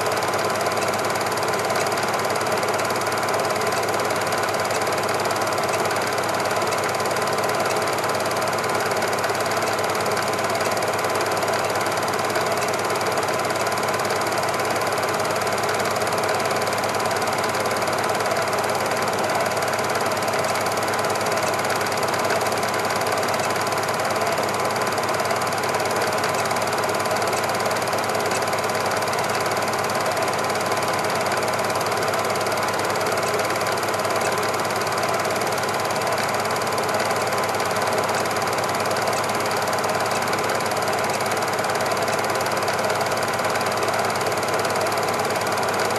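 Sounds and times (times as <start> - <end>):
film projector clatter: 0.0 - 45.9.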